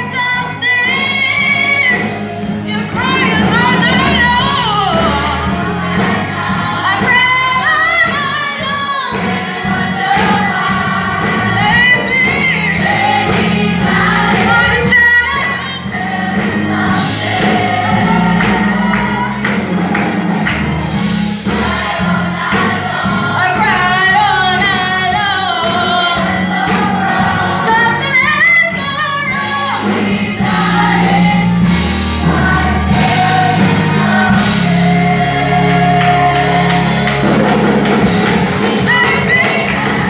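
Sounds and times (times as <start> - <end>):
sustained bass: 0.0 - 8.2, 9.7 - 40.0
gospel choir singing: 0.0 - 40.0
keyboard chords: 0.0 - 40.0.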